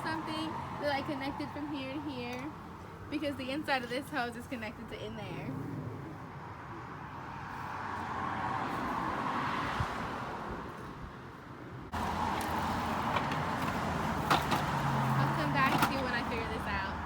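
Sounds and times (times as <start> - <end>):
car passing: 0.0 - 17.0
outdoor background: 0.0 - 17.0.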